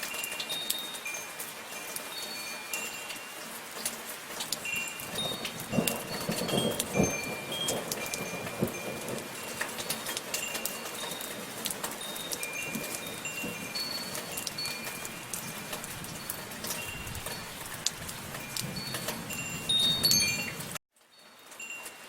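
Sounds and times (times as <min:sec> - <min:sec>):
metal wind chimes ringing: 0:00.0 - 0:03.8, 0:04.5 - 0:22.0
soft rainfall: 0:00.0 - 0:22.0.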